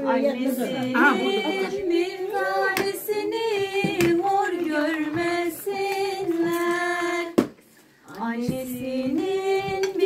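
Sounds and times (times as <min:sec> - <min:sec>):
woman singing unaccompanied: 0:00.0 - 0:07.5, 0:08.1 - 0:10.0.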